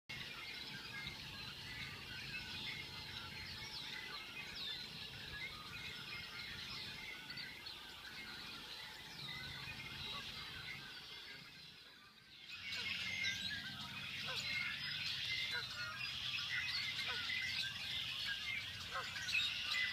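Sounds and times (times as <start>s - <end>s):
blackbirds chirping: 0.1s - 19.9s.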